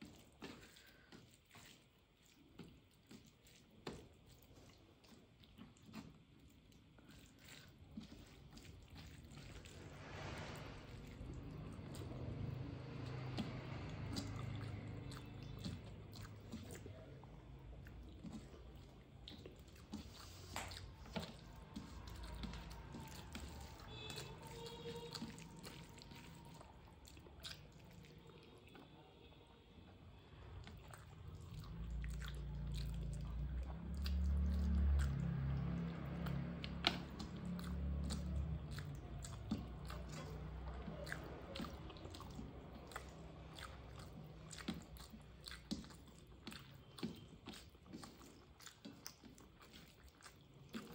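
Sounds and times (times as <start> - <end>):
person chewing food: 0.0 - 29.1, 29.8 - 50.9.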